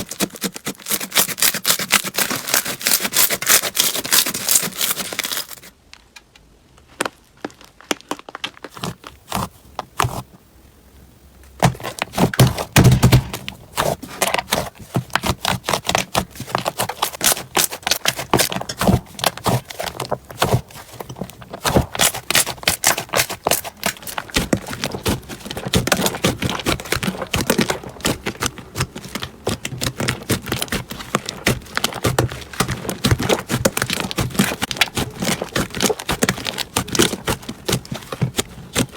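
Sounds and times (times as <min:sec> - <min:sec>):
slime crackling and popping: 0:00.0 - 0:05.7, 0:11.6 - 0:38.9.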